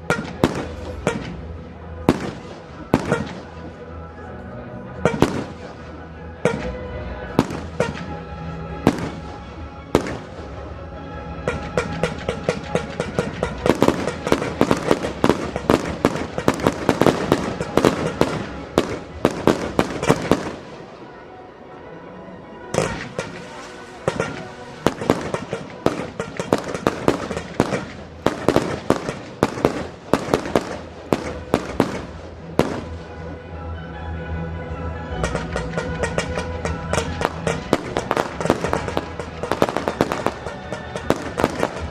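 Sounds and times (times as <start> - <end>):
fireworks bangs: 0.0 - 3.7, 5.0 - 8.2, 8.8 - 10.7, 11.4 - 21.0, 22.7 - 33.2, 35.2 - 41.9
background music: 0.0 - 41.9.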